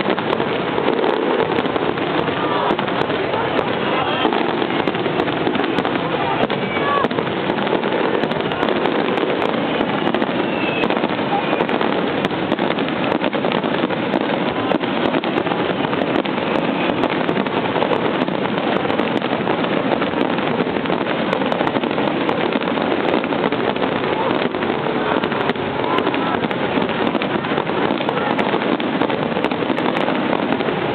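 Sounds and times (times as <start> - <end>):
fireworks bursting and crackling: 0.0 - 30.9.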